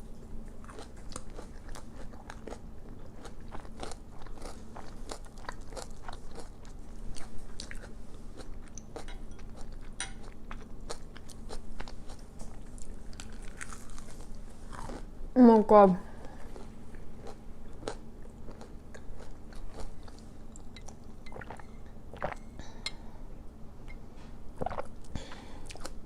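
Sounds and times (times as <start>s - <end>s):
crunching and chewing onion rings: 0.1s - 15.2s, 16.1s - 22.4s, 24.6s - 26.0s.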